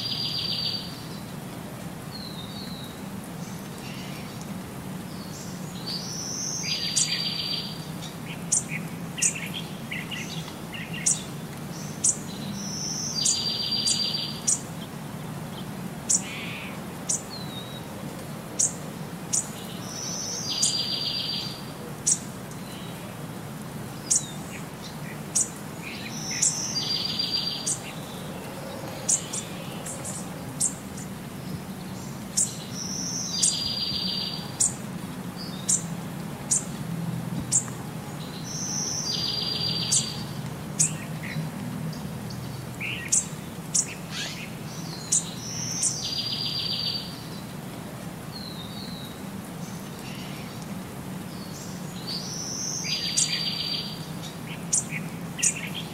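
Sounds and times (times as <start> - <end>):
birds chirping: 5.0 - 17.9, 18.6 - 23.0, 23.9 - 36.7, 37.4 - 47.5, 48.3 - 55.9.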